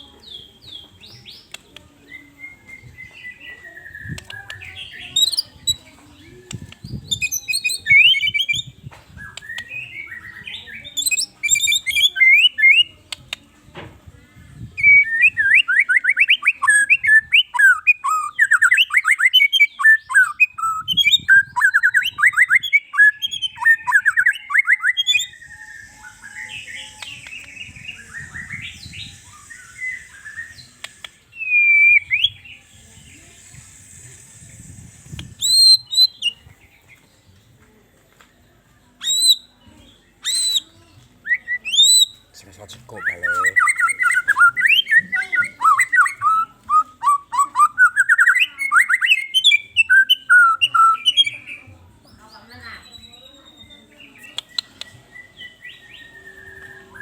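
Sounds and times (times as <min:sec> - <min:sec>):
bird singing whistled phrases: 0:01.0 - 0:13.0, 0:14.8 - 0:36.5, 0:39.0 - 0:39.6, 0:40.2 - 0:42.2, 0:42.8 - 0:51.6, 0:52.6 - 0:57.0.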